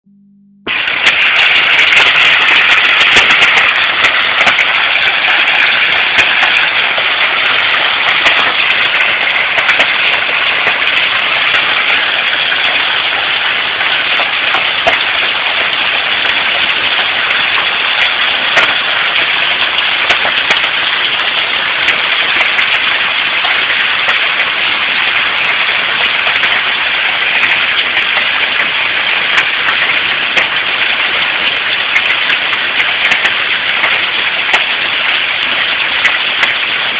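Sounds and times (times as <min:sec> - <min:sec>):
hailstones striking: 0:00.7 - 0:36.9
heavy rain roaring: 0:00.7 - 0:36.9.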